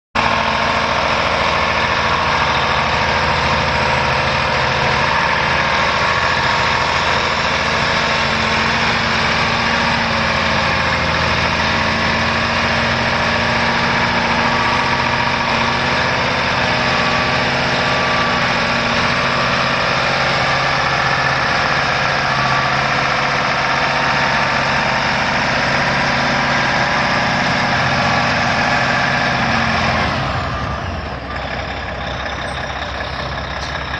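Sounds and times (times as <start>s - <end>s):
diesel truck engine idling: 0.2s - 33.9s.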